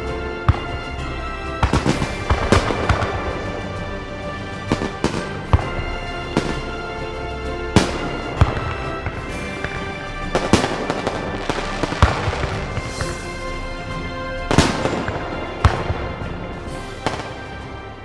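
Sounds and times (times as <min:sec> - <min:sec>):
background music: 0:00.0 - 0:18.0
fireworks bangs: 0:00.0 - 0:18.0.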